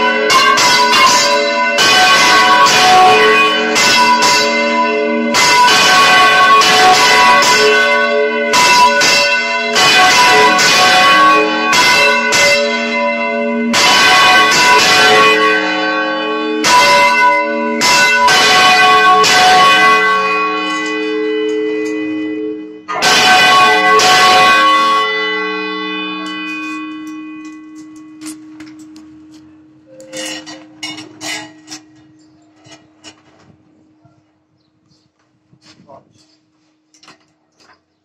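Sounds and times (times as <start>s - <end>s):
church bells ringing: 0.0s - 34.5s.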